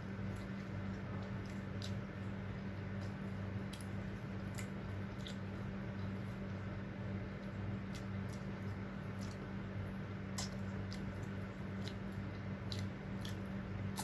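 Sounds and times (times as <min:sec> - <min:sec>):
chewing with wet mouth sounds: 0:00.0 - 0:14.0.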